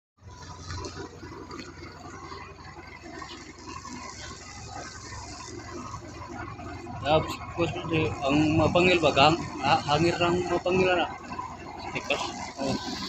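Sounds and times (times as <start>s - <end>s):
low steady hum: 0.2s - 13.0s
water sloshing against wooden boats: 0.2s - 13.0s.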